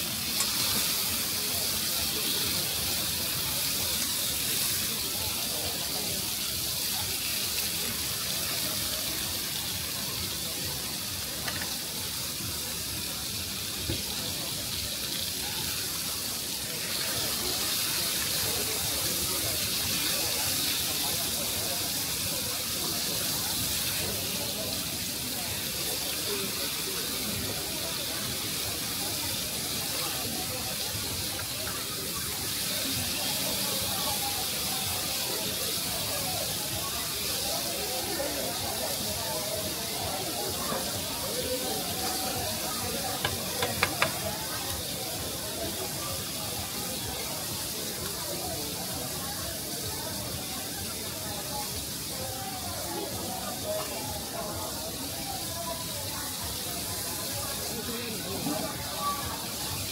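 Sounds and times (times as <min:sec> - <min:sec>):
faint voices: 0:00.0 - 0:59.9
steady rushing hiss: 0:00.0 - 0:59.9.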